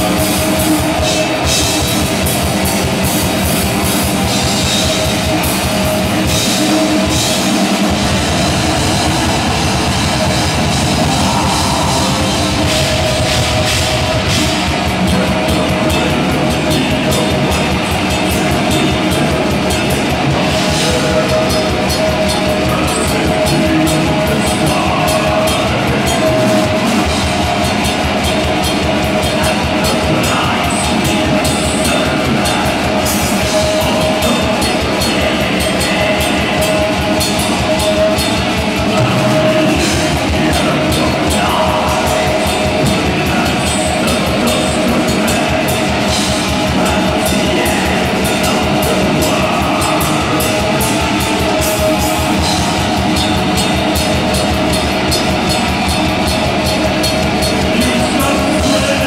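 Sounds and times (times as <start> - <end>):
distorted electric guitars: 0.0 - 59.0
drums: 0.0 - 59.0.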